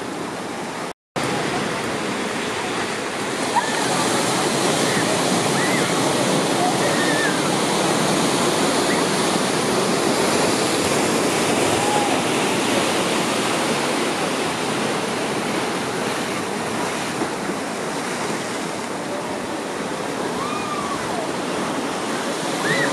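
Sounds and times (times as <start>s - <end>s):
small waves breaking: 0.0s - 22.9s.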